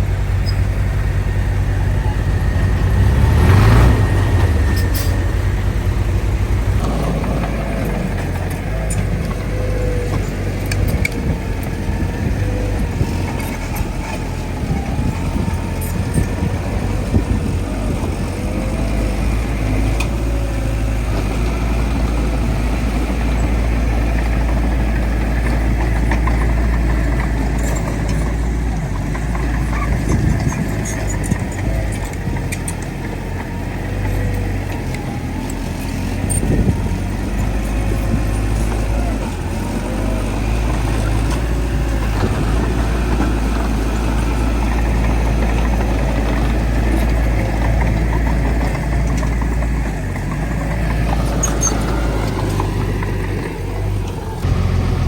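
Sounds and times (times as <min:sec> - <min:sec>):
bulldozer engine rumbling: 0:00.0 - 0:55.0.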